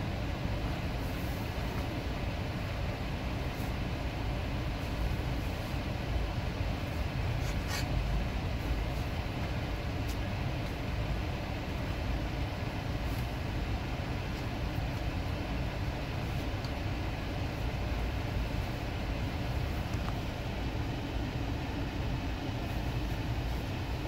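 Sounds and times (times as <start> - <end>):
car idling rumble: 0.0 - 24.0.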